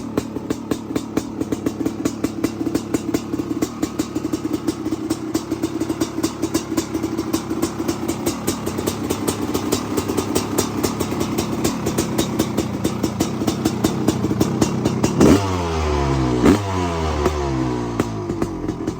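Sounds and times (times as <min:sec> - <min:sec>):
two-stroke engine idling: 0:00.0 - 0:18.9.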